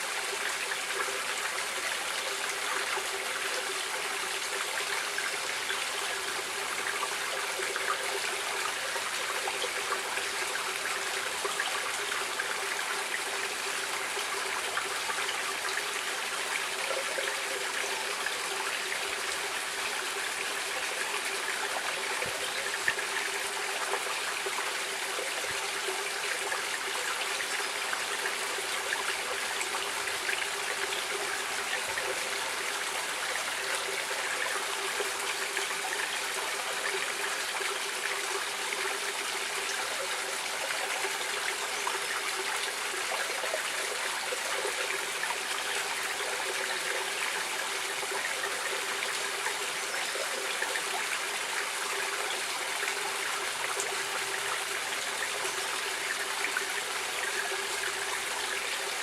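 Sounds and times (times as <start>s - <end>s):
stream water over stones: 0.0s - 59.0s.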